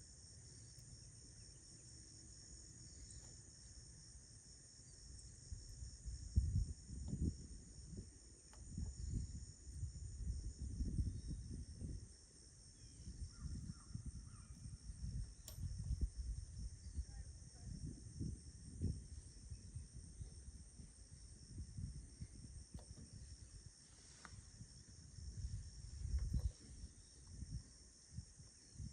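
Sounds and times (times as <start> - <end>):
insects trilling: 0.0 - 28.9.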